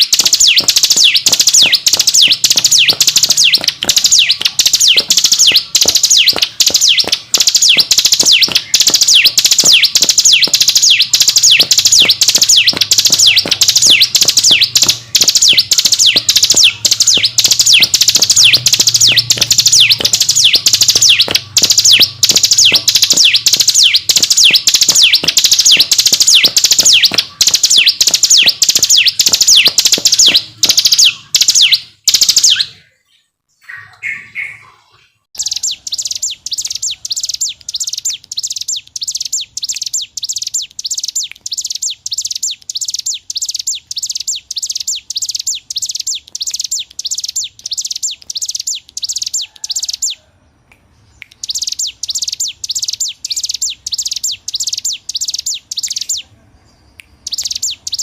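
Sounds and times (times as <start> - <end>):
bird singing rapid high notes: 0.0 - 50.2, 50.9 - 58.0.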